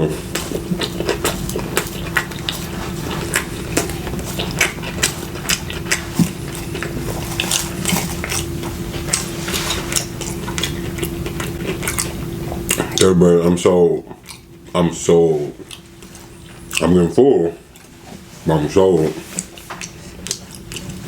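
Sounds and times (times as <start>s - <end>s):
food crunching while eating: 0.0s - 21.0s
steady low hum: 0.0s - 21.0s.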